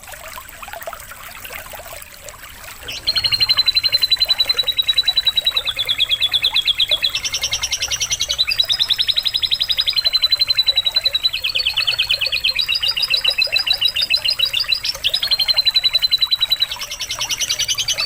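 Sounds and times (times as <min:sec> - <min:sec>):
canary singing trills: 0:02.8 - 0:18.0.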